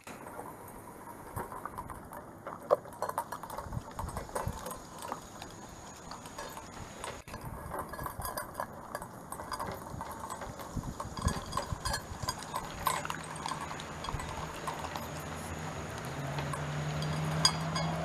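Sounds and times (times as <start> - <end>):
dog eating from metal bowl: 0.0 - 18.0.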